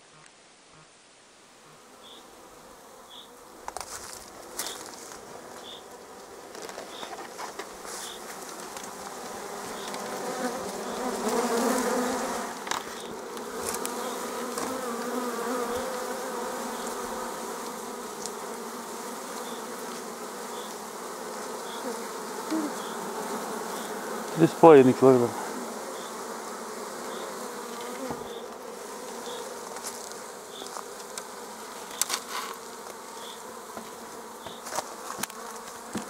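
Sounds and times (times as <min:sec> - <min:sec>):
bee swarm buzzing: 0:01.6 - 0:36.0.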